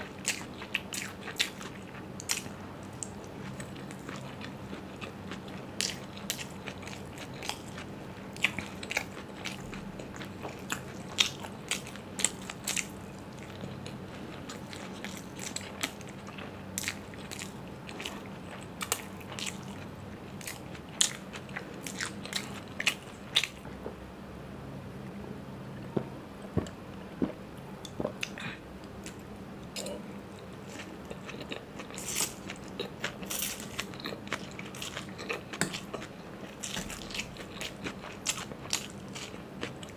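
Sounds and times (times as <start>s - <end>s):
person chewing food: 0.0s - 24.0s, 29.8s - 39.9s.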